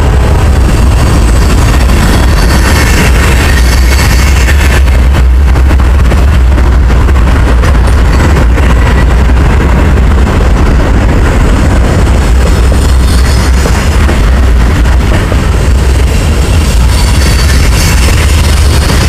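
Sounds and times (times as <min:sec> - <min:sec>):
steel wheels rumbling on rails: 0:00.0 - 0:19.0.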